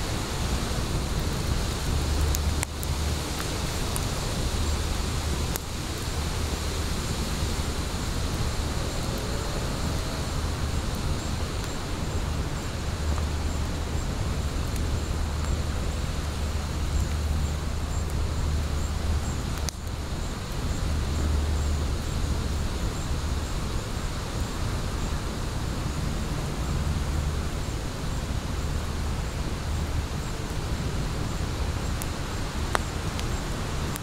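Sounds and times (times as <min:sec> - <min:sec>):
fire crackles: 0:00.0 - 0:34.0
wood fire hissing: 0:00.0 - 0:34.0.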